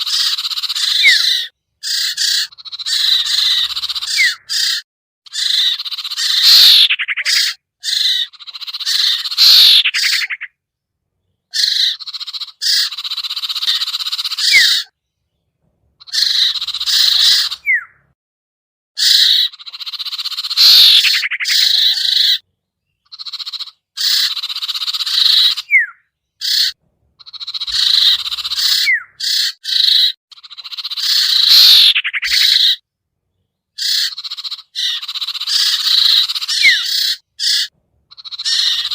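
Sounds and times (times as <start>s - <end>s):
songbird chattering and whistles: 0.0s - 10.6s, 11.2s - 18.2s, 19.0s - 38.9s.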